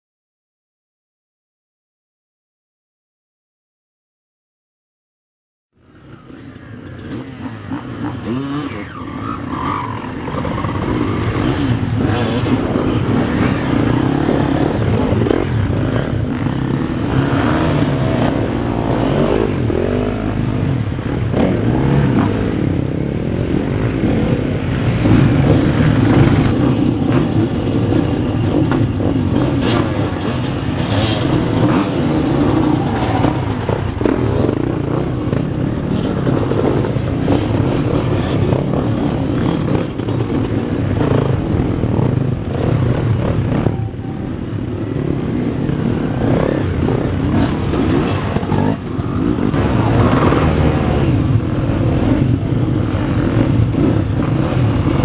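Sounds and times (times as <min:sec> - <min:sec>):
dirt bike engines revving: 0:05.8 - 0:55.0
dirt bikes accelerating away: 0:05.8 - 0:55.0.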